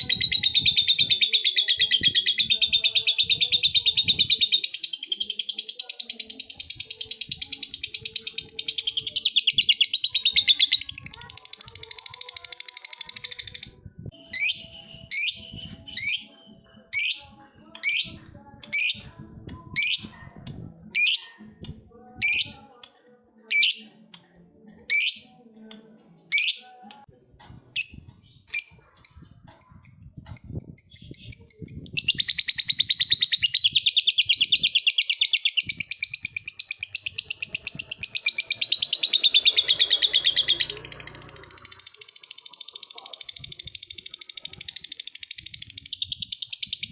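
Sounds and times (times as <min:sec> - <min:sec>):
lovebird chirping and chattering: 0:00.0 - 0:20.2, 0:21.0 - 0:21.4, 0:22.2 - 0:22.6, 0:23.5 - 0:24.0, 0:24.9 - 0:25.3, 0:26.2 - 0:26.8, 0:27.7 - 0:46.9.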